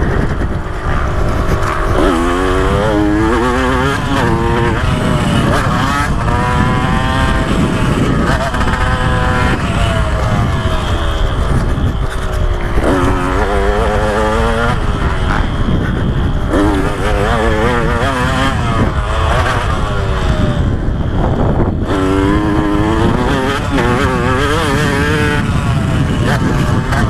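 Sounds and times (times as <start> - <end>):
motocross engine revving: 0.0 - 27.0
wind noise on microphone: 0.0 - 27.0.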